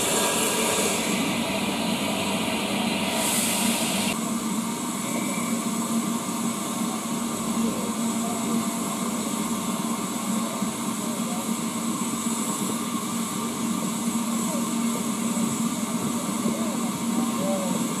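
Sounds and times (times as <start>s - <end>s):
steam locomotive hissing: 0.0s - 18.0s.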